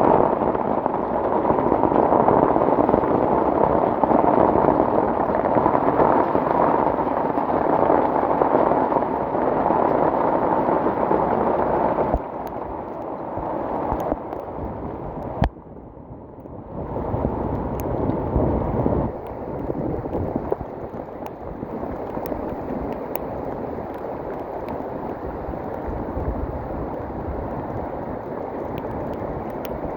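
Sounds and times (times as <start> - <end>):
rushing river water roar: 0.0 - 15.5, 16.7 - 29.9.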